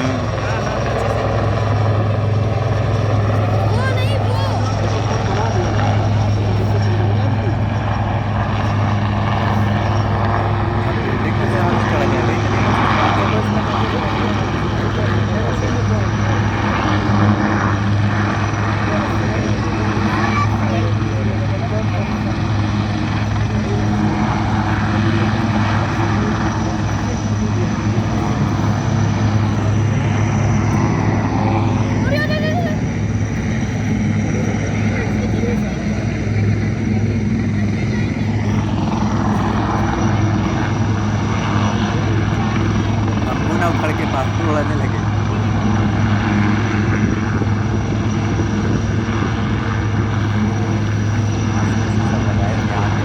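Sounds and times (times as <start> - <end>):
helicopter rotor drone: 0.0 - 53.0.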